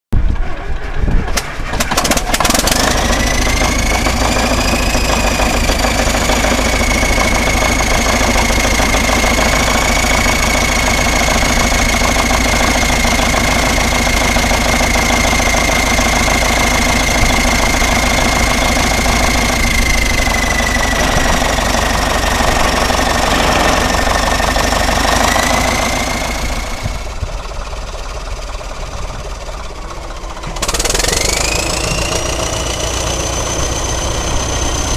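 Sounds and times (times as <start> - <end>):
diesel engine rumbling: 0.2 - 34.9
turbocharger whistle: 2.4 - 27.1, 30.6 - 34.9.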